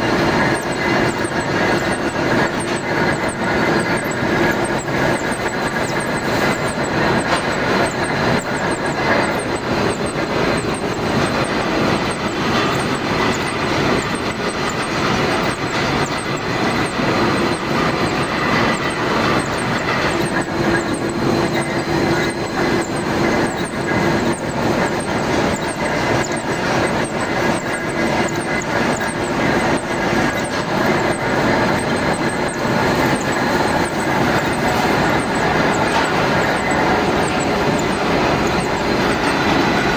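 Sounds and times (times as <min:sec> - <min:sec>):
machine tool humming and whirring: 0:00.0 - 0:39.9.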